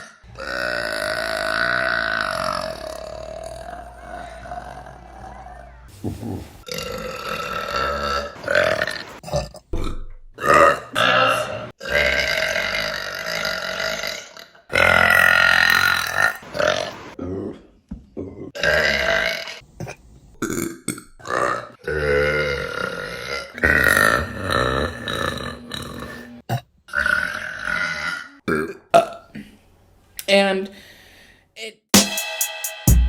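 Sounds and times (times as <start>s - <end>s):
people burping: 0.0s - 17.4s, 18.5s - 29.5s.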